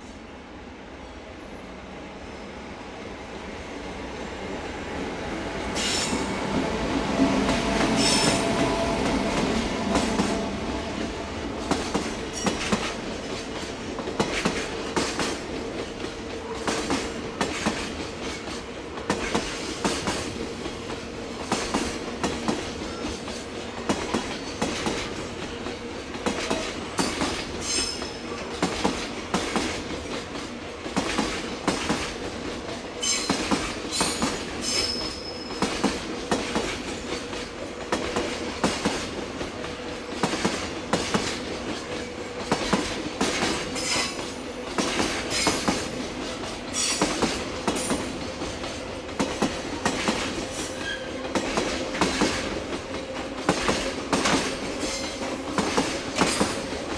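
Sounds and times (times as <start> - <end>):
electric locomotive passing: 0.0 - 56.9.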